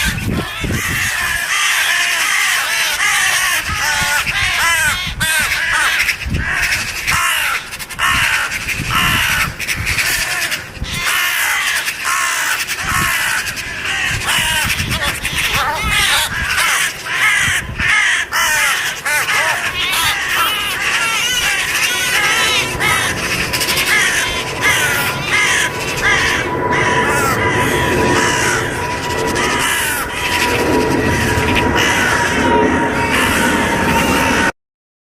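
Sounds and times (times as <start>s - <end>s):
crows calling harshly: 0.0s - 34.5s.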